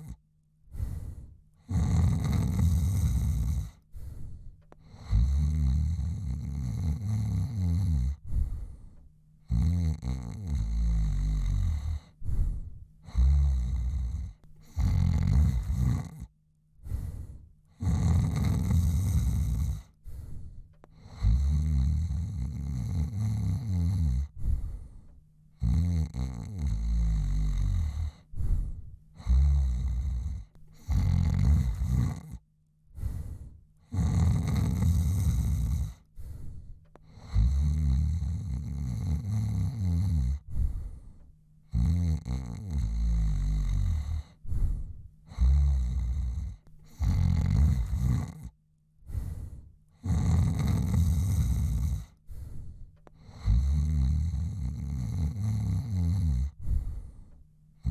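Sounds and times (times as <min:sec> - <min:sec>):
man snoring: 0:00.0 - 0:04.2, 0:04.8 - 0:25.0, 0:25.6 - 0:32.4, 0:33.0 - 0:36.4, 0:37.0 - 0:41.1, 0:41.7 - 0:57.2.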